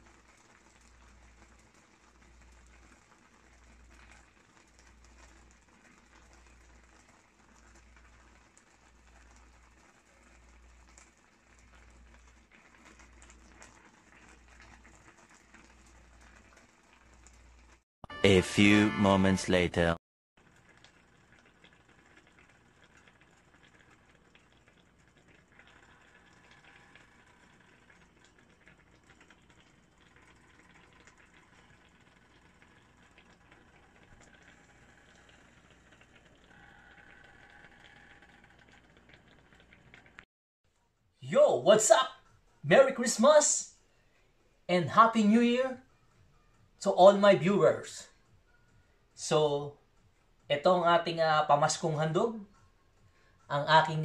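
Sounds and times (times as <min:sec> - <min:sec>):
liquid simmering crackle: 0:00.0 - 0:17.9, 0:20.4 - 0:41.0, 0:47.7 - 0:50.5, 0:51.6 - 0:54.0.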